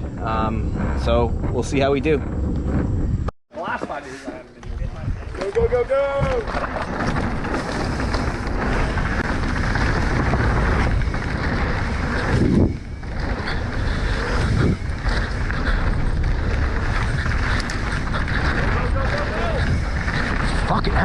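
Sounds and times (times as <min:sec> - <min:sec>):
wind rushing over microphone: 0:00.0 - 0:03.3, 0:04.6 - 0:21.0
bike tyres rumbling over dirt: 0:00.0 - 0:21.0.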